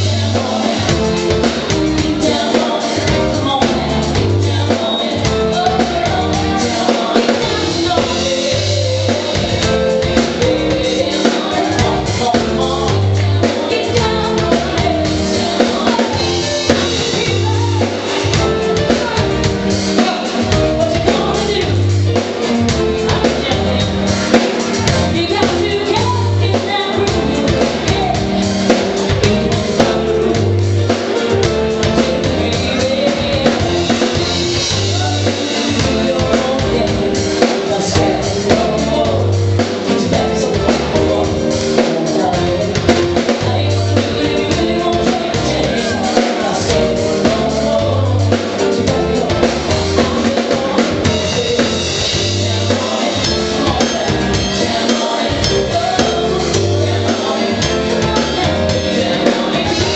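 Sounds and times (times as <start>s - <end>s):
drum kit: 0.0s - 59.9s
person singing: 0.0s - 59.9s
bass guitar figure: 7.4s - 59.9s.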